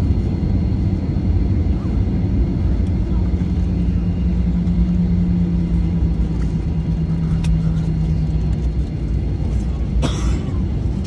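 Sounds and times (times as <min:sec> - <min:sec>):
jet engines idling rumble: 0:00.0 - 0:11.0
steady hum: 0:00.0 - 0:11.0.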